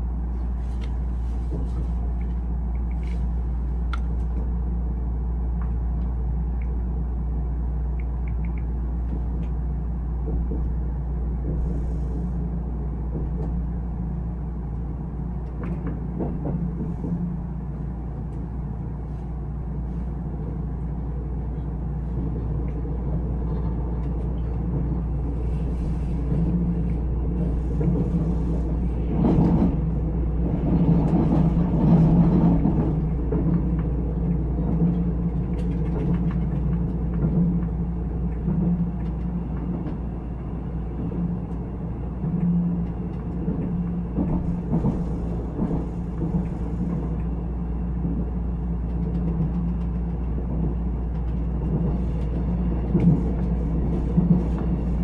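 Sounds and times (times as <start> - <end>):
train rumbling from inside carriage: 0.0 - 55.0.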